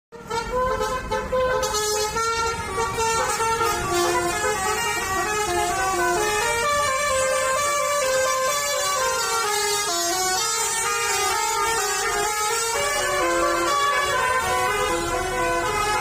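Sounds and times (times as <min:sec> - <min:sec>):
bus horns playing melodies: 0:00.1 - 0:16.0
low engine rumble: 0:00.2 - 0:16.0.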